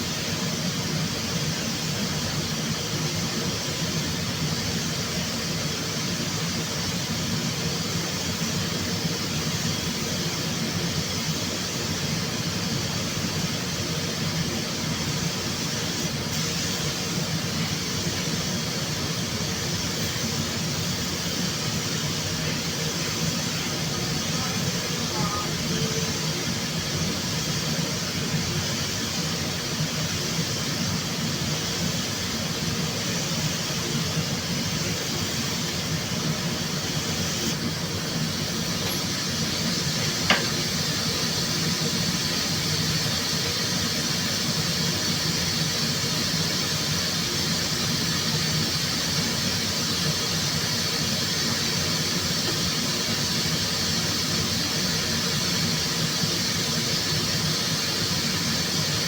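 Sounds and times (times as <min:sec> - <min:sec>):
machine hum and hiss: 0:00.0 - 0:59.0.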